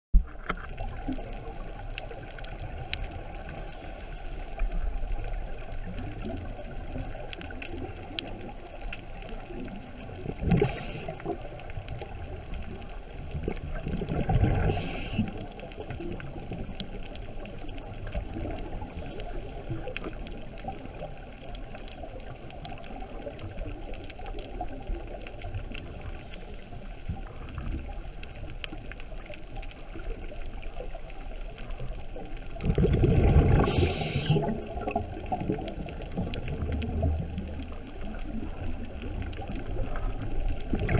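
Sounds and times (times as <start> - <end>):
faint crackling clicks: 0.2 - 40.9
gurgling regulator bubbles: 0.2 - 40.9
muffled underwater hiss: 0.2 - 40.9.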